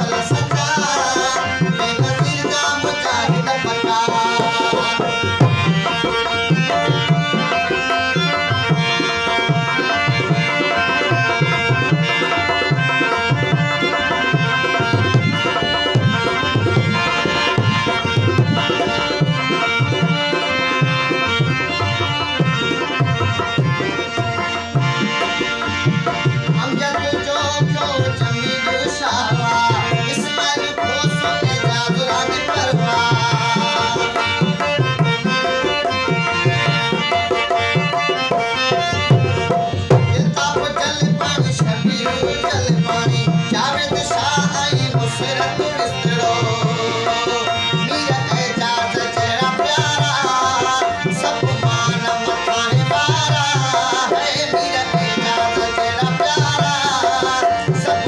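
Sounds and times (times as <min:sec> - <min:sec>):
hand drum rhythm: 0:00.0 - 0:58.0
harmonium chords: 0:00.0 - 0:58.0
men singing: 0:00.0 - 0:58.0.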